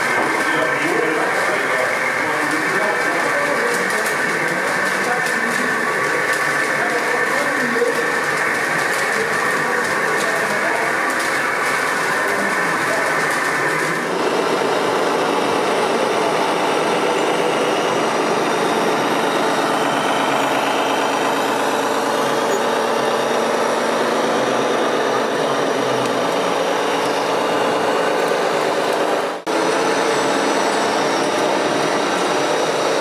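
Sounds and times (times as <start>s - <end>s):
model truck engine sounds: 0.0s - 33.0s.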